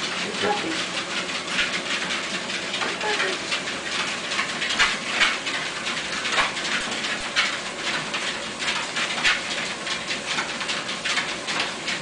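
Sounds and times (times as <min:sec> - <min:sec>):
treadmill hiss: 0:00.0 - 0:12.0.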